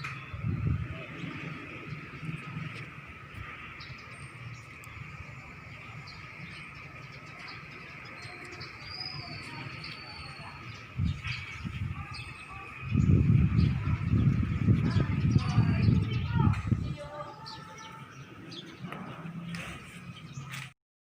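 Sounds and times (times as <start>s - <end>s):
low rumble: 0.0s - 20.4s
bird chirps: 3.4s - 20.7s.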